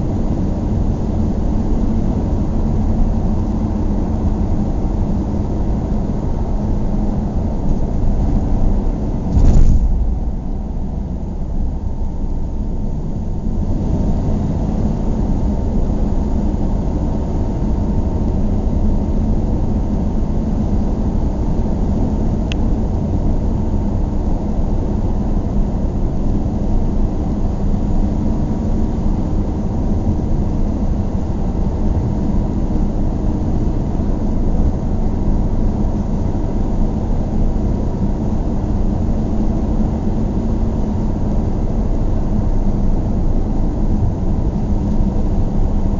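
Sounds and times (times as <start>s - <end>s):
faint engine hum: 0.0s - 45.9s
road noise in car cabin: 0.0s - 45.9s.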